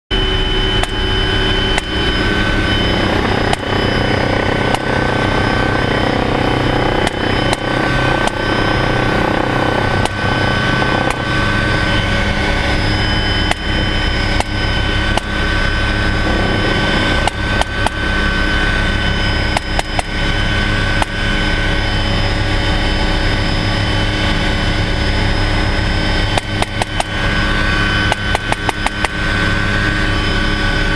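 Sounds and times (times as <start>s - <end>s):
helicopter engine and rotor: 0.1s - 30.9s
high engine whine: 0.1s - 30.9s.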